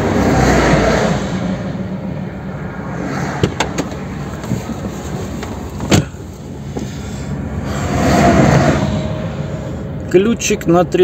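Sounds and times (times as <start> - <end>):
low engine hum: 0.0 - 11.0
passing vehicle rush: 0.0 - 11.0.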